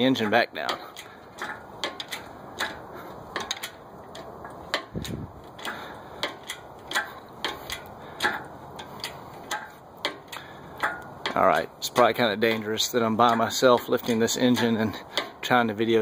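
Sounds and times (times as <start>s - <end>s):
hoist pump clicking: 0.0s - 16.0s.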